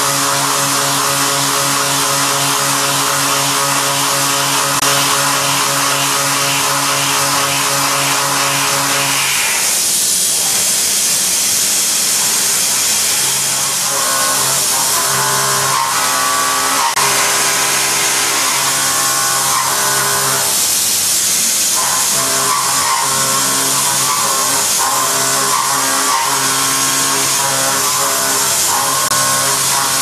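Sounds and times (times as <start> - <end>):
milling cutter hissing: 3.8 - 30.0.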